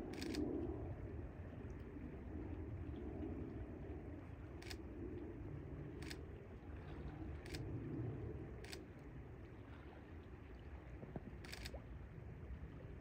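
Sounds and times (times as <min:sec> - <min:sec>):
river water rumbling: 0:00.0 - 0:13.0
wind: 0:00.0 - 0:13.0.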